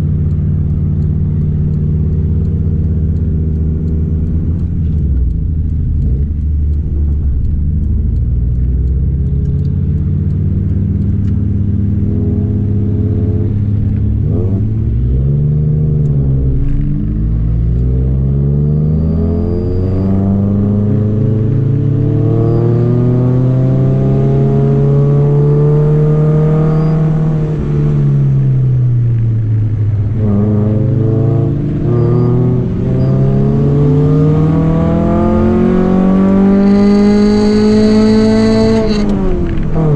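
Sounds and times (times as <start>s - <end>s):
car engine pulling uphill: 0.0s - 39.9s.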